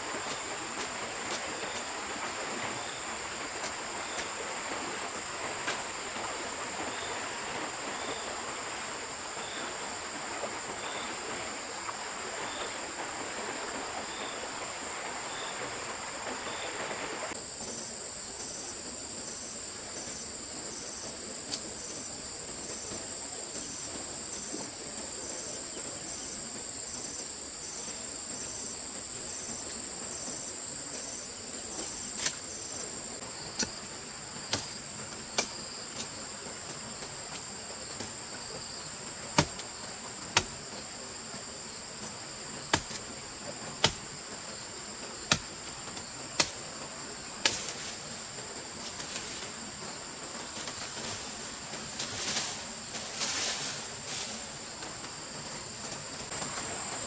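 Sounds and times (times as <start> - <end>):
stream running: 0.0 - 17.7, 18.8 - 57.0.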